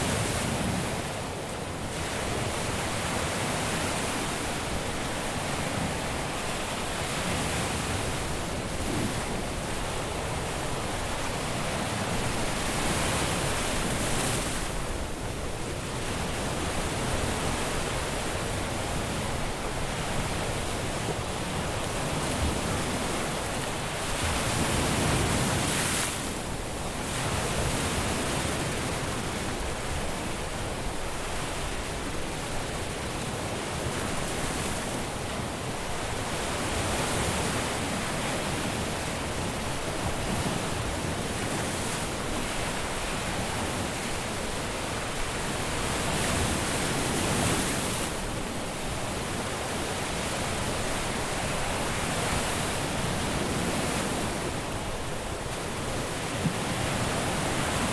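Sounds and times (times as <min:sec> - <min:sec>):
waves breaking on a beach: 0:00.0 - 0:57.9.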